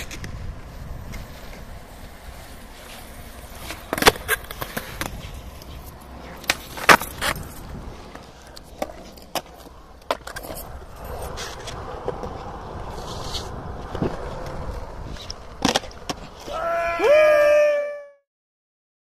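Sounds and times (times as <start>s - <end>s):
skateboard clacking on ground: 0.0s - 16.6s
skateboard wheels rolling on concrete: 0.0s - 17.9s.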